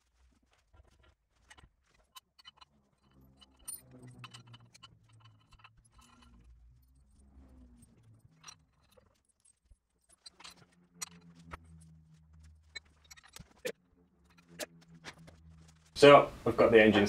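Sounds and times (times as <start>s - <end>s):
low hum: 0.0s - 17.0s
metal parts and tools clinking: 0.2s - 16.0s.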